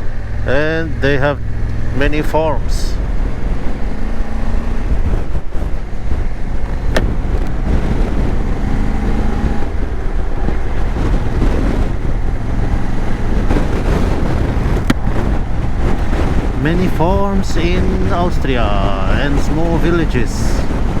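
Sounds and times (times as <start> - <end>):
motorcycle engine cruising: 0.0 - 21.0
wind rushing on microphone: 0.0 - 21.0.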